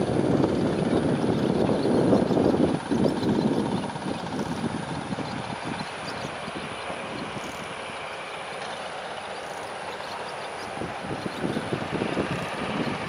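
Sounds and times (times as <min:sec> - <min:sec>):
rumble of vehicle traffic: 0:00.0 - 0:13.0
swallow chittering: 0:00.1 - 0:13.0.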